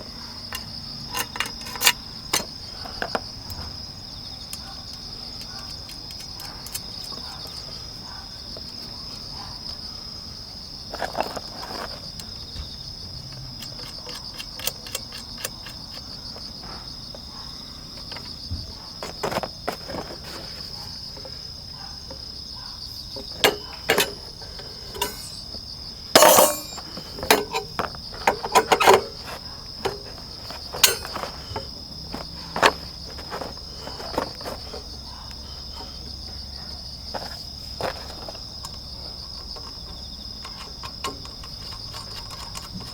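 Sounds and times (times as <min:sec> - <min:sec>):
crickets chirring: 0:00.0 - 0:42.9
camp gear knocking and clinking: 0:00.3 - 0:09.3, 0:10.8 - 0:42.9.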